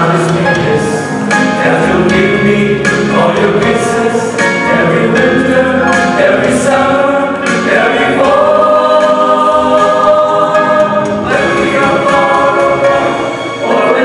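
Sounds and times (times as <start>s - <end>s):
male vocal group singing in harmony: 0.0s - 14.0s.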